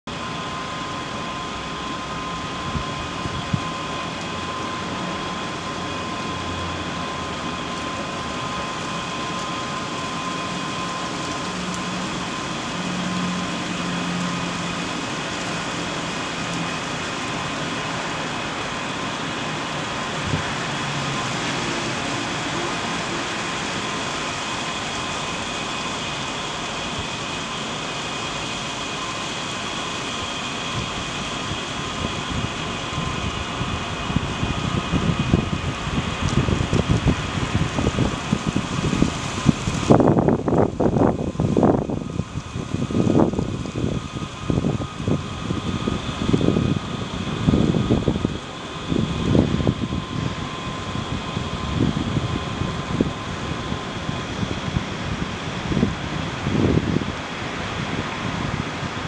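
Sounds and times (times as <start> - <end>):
low rumble of traffic: 0.1 - 59.0
mechanical hum: 0.1 - 59.0.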